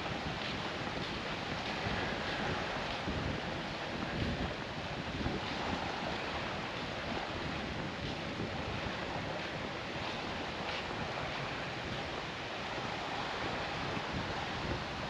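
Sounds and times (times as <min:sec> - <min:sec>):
surf washing on a beach: 0:00.0 - 0:15.0
wind buffeting microphone: 0:00.0 - 0:15.0.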